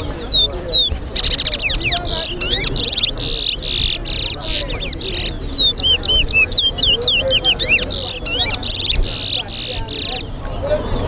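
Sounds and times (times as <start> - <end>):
finch singing: 0.0 - 10.6.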